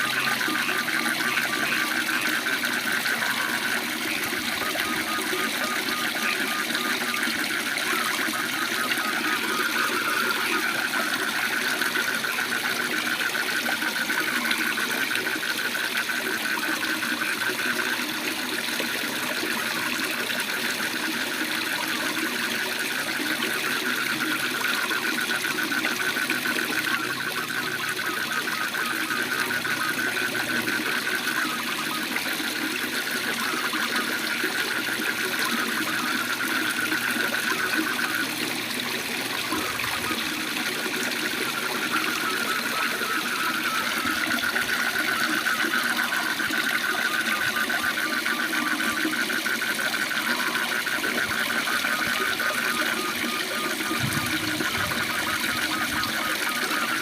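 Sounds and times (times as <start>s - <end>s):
frogs trilling: 0.0s - 57.0s
lower frog trill: 0.0s - 57.0s.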